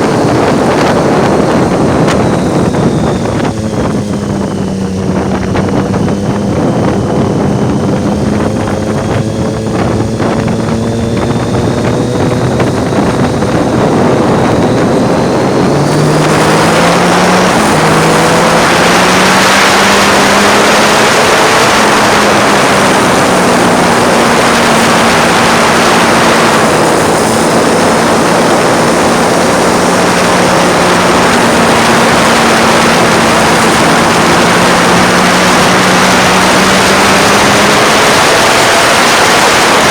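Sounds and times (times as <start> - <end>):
motorcycle engine running: 0.0 - 39.9
wind over microphone: 0.0 - 39.9.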